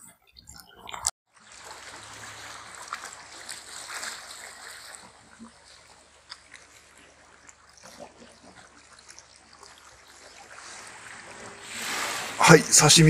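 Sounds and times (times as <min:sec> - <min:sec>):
waves lapping against rocks: 0:00.4 - 0:13.0.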